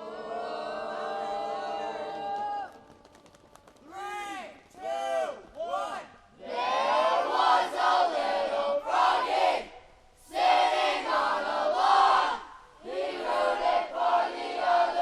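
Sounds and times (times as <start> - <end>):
group chanting a cheer: 0.0 - 2.7, 4.8 - 15.0.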